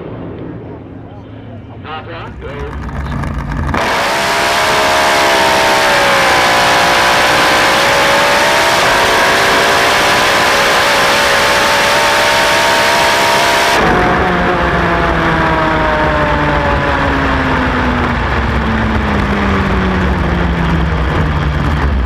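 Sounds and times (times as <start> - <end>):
racing boat engine at full power: 1.6 - 22.0.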